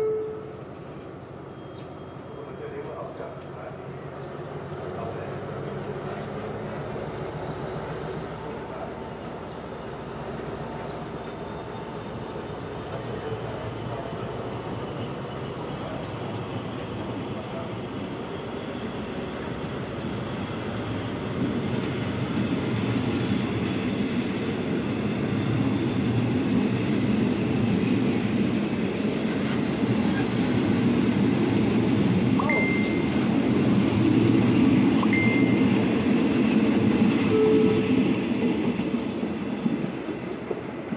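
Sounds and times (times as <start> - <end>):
train wheels on rail: 0.6 - 40.9.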